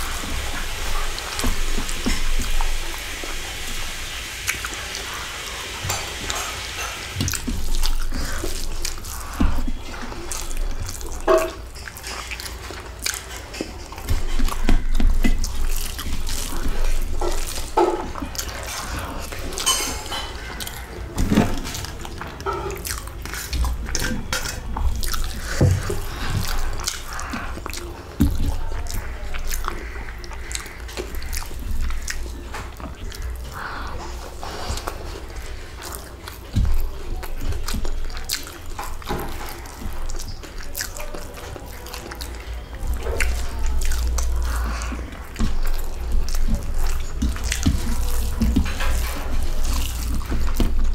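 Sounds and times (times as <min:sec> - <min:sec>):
chewing and lip smacking: 0:00.0 - 0:50.9.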